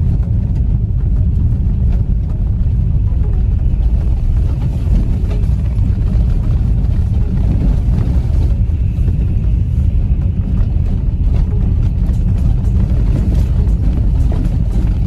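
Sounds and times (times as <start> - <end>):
car driving on dirt road: 0.0 - 15.0.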